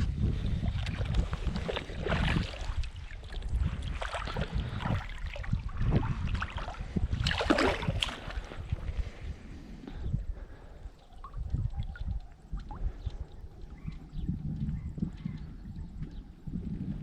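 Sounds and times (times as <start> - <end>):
water splashing and sloshing: 0.0 - 14.8
wind rumbling on microphone: 0.0 - 17.0.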